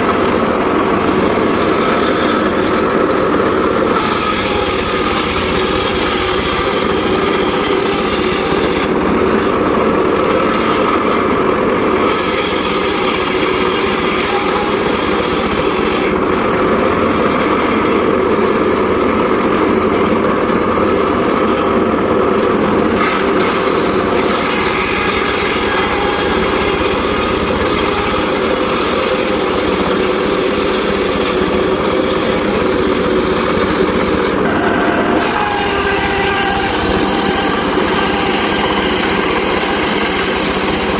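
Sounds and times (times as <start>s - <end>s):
circular saw cutting wood: 0.0s - 40.9s.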